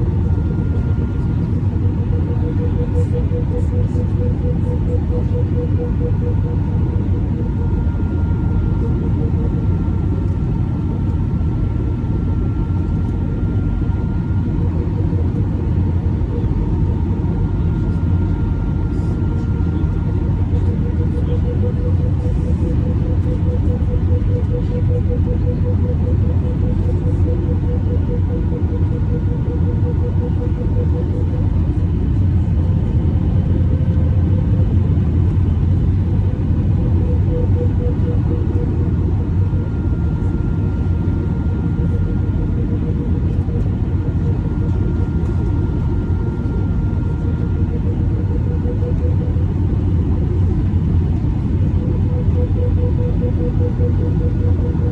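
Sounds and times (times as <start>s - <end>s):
faint steady hum: 0.0s - 54.9s
faint steady whine: 0.0s - 54.9s
jet cabin low rumble: 0.0s - 54.9s.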